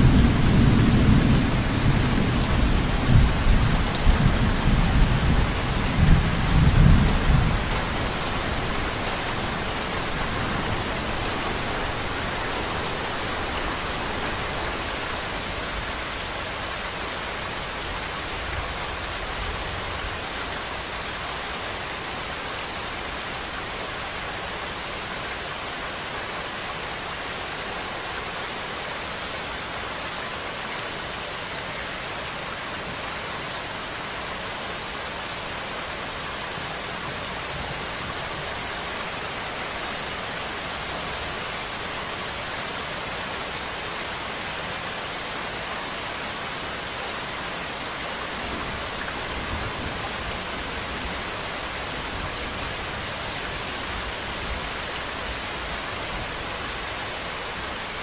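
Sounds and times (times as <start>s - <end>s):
dense rain hissing: 0.0s - 58.0s.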